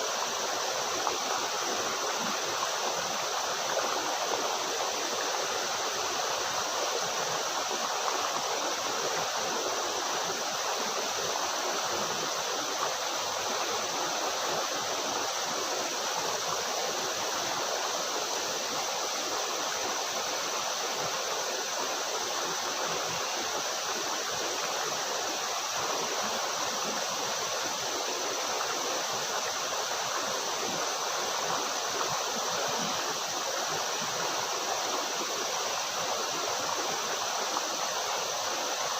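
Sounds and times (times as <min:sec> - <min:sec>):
waterfall rushing water: 0:00.0 - 0:38.9.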